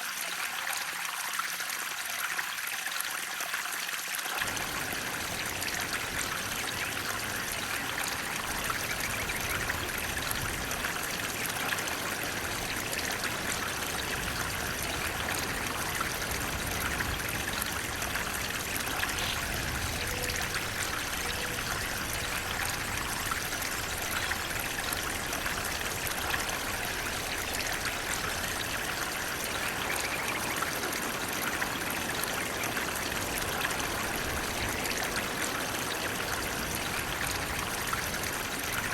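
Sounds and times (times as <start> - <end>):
water flowing and splashing: 0.0 - 38.9.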